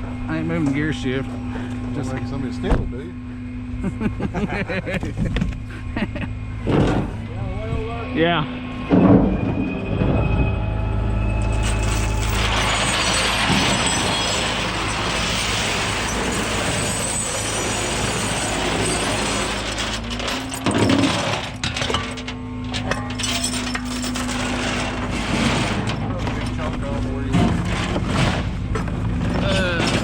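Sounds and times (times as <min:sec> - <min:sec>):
steady hum: 0:00.0 - 0:30.0
truck engine running: 0:00.0 - 0:30.0.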